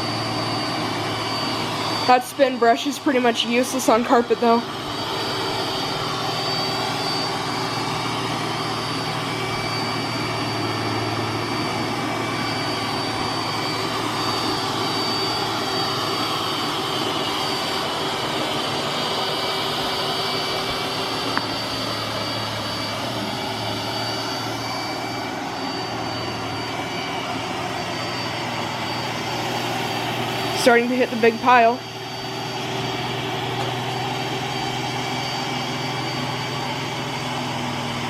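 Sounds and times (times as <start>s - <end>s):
robot vacuum whirring: 0.0s - 38.0s.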